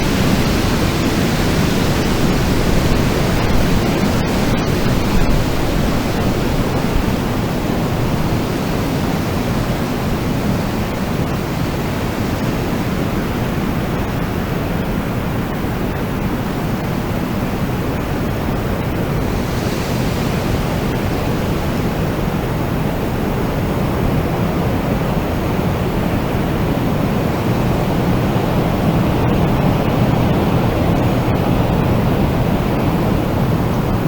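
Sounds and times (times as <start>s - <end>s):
strong wind blowing: 0.0s - 34.0s.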